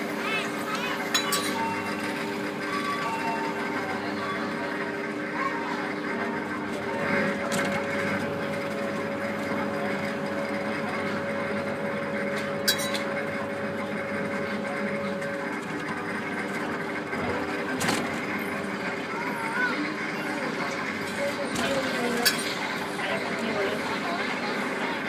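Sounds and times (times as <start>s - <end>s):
monorail drive hum: 0.0s - 25.0s.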